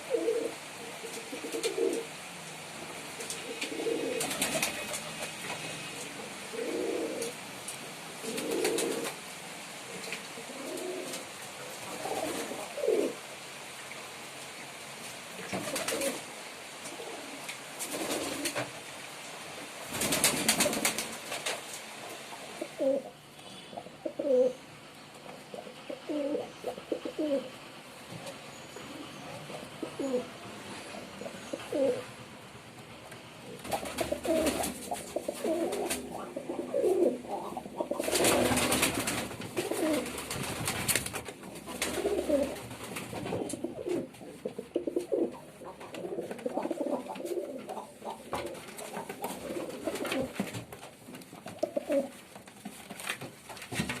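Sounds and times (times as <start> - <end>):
pigeon cooing: 0.0 - 7.5, 8.1 - 13.3, 15.4 - 18.8, 22.2 - 32.2, 33.4 - 50.7, 51.4 - 52.3.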